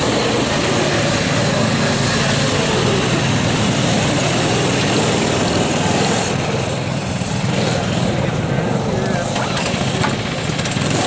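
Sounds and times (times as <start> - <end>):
mini snowmobile engines running: 0.0 - 11.0.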